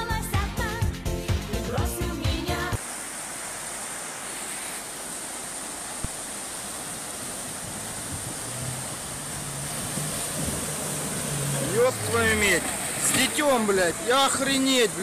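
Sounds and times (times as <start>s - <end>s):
flood torrent rushing: 2.8s - 15.0s.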